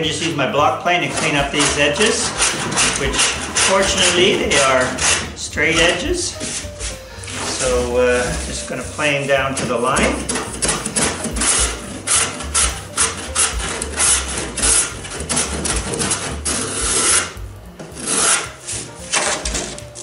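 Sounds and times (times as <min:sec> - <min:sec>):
block plane shaving wood: 0:00.0 - 0:20.0.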